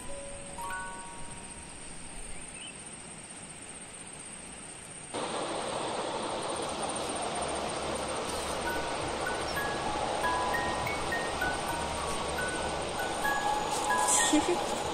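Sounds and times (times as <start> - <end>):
hissing outdoor background noise: 0.0 - 14.9.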